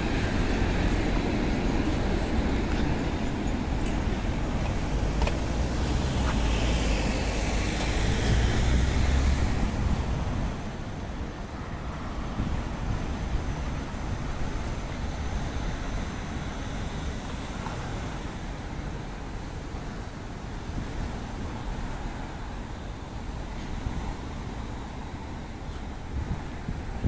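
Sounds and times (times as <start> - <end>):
light street traffic: 0.0 - 27.0.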